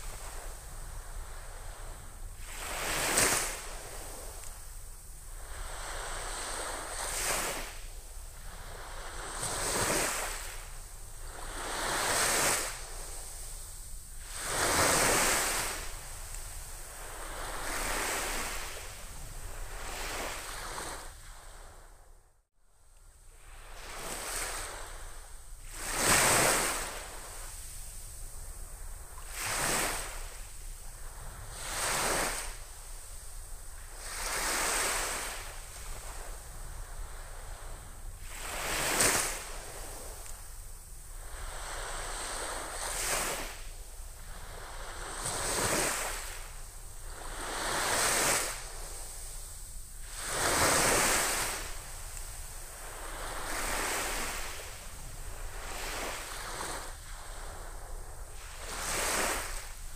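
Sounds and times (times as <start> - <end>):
gentle waves on a beach: 0.0 - 22.1, 23.3 - 59.9.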